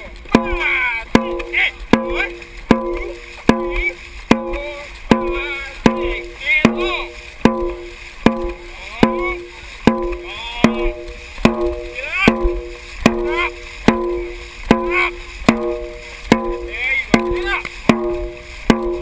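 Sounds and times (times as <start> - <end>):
large drum beating steadily: 0.0 - 19.0.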